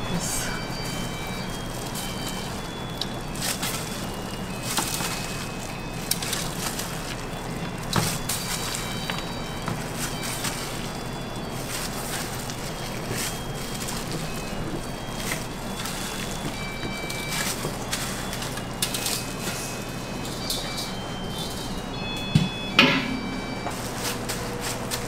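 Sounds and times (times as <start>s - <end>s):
sticky dough wet crackles: 0.0s - 22.7s
kitchen hum: 0.0s - 25.0s.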